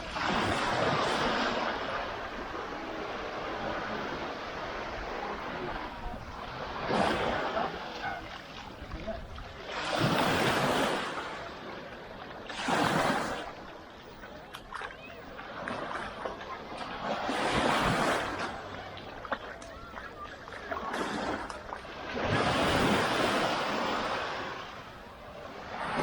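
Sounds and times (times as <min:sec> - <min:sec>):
waves breaking on sand: 0:00.0 - 0:26.0.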